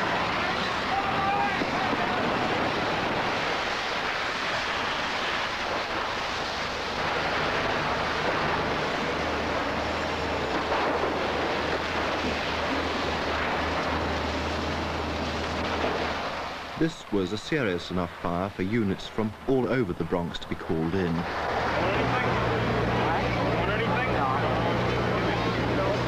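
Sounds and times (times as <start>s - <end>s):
fire burning: 0.0s - 26.0s
fire hose streams rushing: 0.0s - 26.0s
low engine drone: 0.0s - 26.0s.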